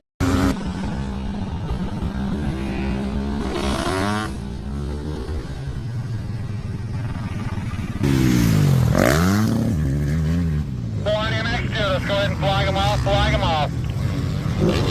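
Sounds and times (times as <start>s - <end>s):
dirt bike engines revving: 0.2s - 14.9s.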